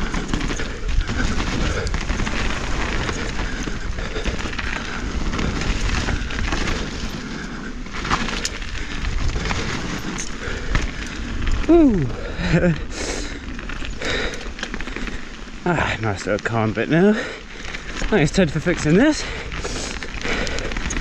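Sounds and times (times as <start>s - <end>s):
bike rattling: 0.0s - 21.0s
bike tyres rolling on dirt: 0.0s - 21.0s.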